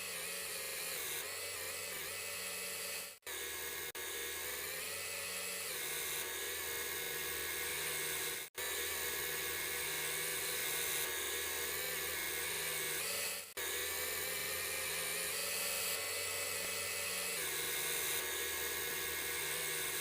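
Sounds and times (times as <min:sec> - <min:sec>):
lathe tool cutting wood whine: 0:00.0 - 0:20.0.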